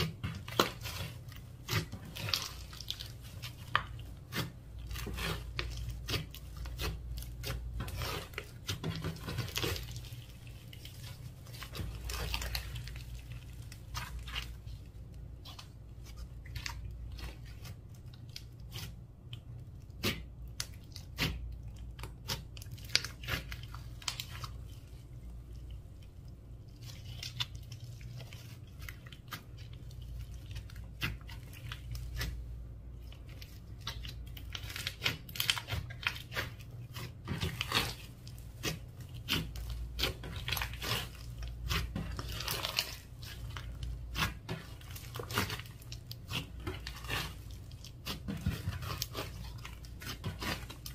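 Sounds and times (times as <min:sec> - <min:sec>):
slime squishing with wet clicks: 0:00.0 - 0:50.9.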